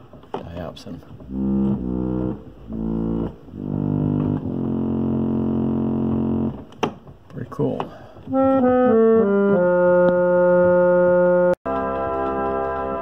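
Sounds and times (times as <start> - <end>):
reed pump organ chords: 1.1 - 6.7, 8.2 - 13.0.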